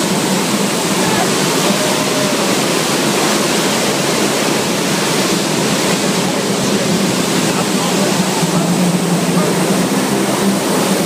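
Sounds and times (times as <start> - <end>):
turboprop engines running: 0.0 - 11.0.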